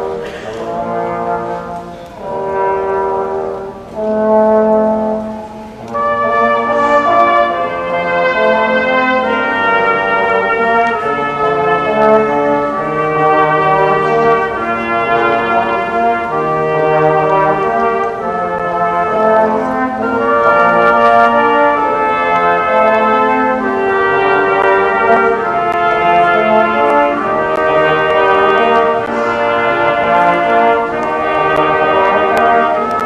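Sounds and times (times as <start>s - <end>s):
brass ensemble playing: 0.0s - 33.0s.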